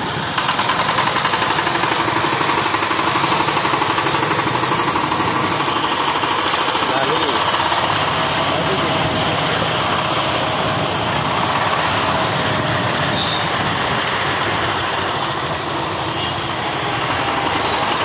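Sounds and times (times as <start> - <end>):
diesel engine running steadily: 0.0 - 18.0.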